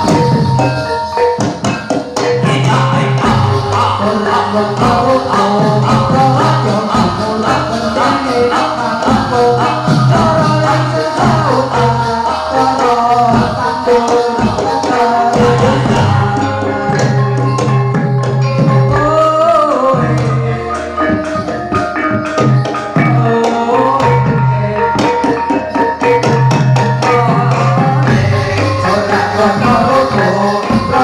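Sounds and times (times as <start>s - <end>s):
hand drums beating: 0.0s - 31.0s
metallophone notes: 0.0s - 31.0s
singing or flute-like line: 0.0s - 31.0s.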